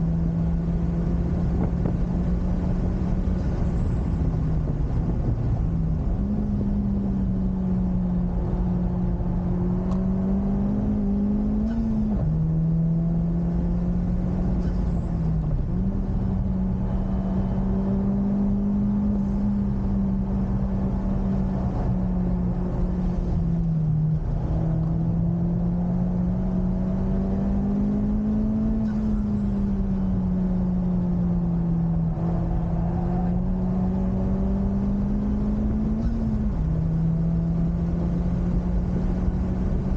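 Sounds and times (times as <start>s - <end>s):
road and wind noise: 0.0s - 39.9s
car engine revving high: 4.9s - 39.9s.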